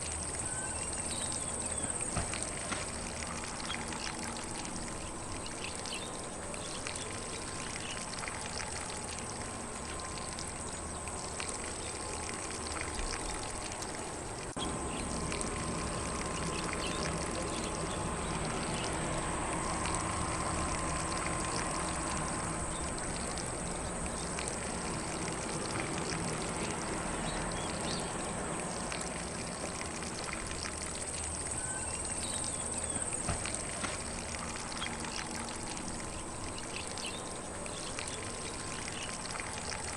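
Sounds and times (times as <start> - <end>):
faint distant birdsong: 0.0 - 39.9
lawn sprinkler spraying water: 0.0 - 39.9.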